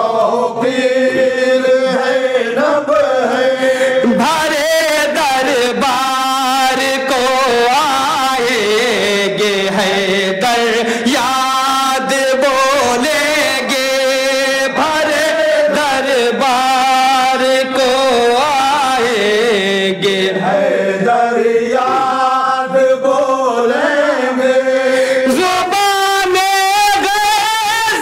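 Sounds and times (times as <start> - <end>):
man singing into a microphone: 0.0 - 28.0
men chanting together: 0.0 - 28.0.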